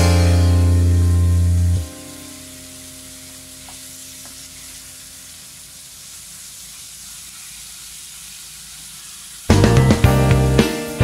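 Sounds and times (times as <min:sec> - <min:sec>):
meat and onion sizzling in a pan: 0:00.2 - 0:11.0.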